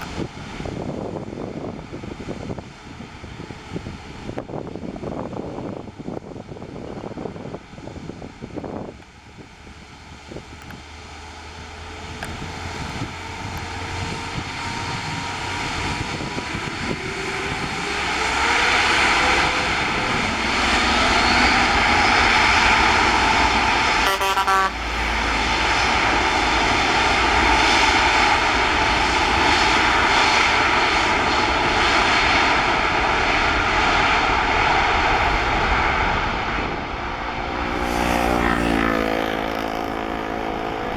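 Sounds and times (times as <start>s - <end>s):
jet engines roaring at takeoff: 0.0s - 40.9s
faint whine gliding in pitch: 8.0s - 40.9s.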